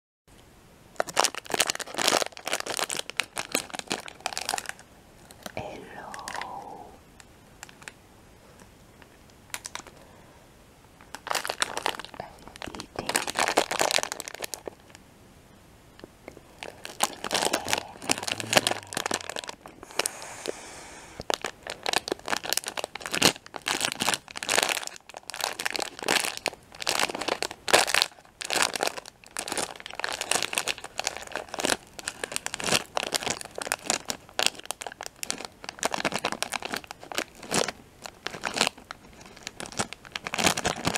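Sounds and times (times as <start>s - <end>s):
plastic candy bag crackling: 1.0s - 6.8s, 7.6s - 8.0s, 9.5s - 10.0s, 11.0s - 15.0s, 16.3s - 20.2s, 21.2s - 40.9s.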